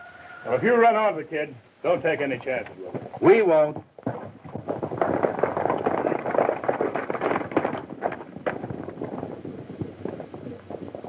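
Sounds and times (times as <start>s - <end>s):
horses galloping over dirt: 1.9s - 11.0s.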